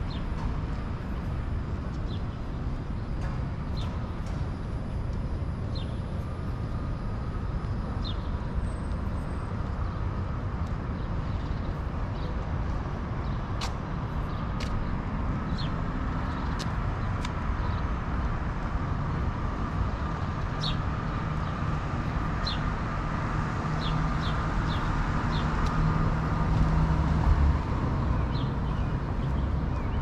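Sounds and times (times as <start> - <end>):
street traffic rumbling: 0.0 - 30.0.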